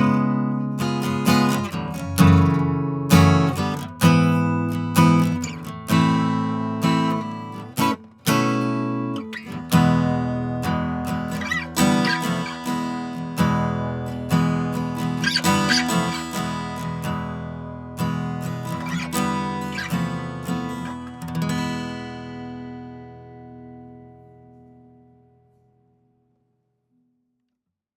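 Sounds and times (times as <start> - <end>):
acoustic guitar strumming: 0.0 - 25.9.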